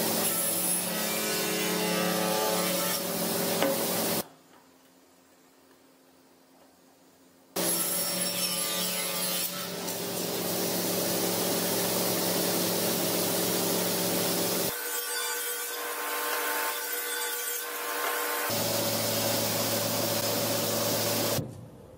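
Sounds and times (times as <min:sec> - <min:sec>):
table saw cutting wood: 0:00.0 - 0:04.2, 0:07.6 - 0:21.4.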